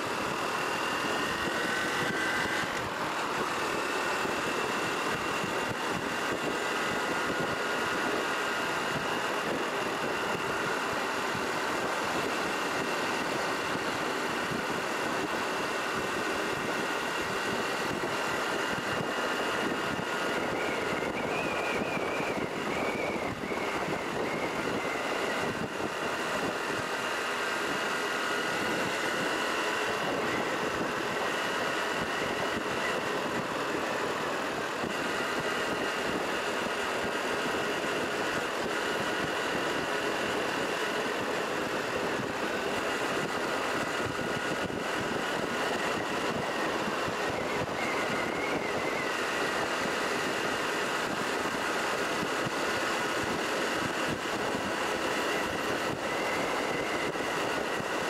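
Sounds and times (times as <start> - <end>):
road noise: 0.0 - 58.0
vehicle engine: 0.0 - 58.0.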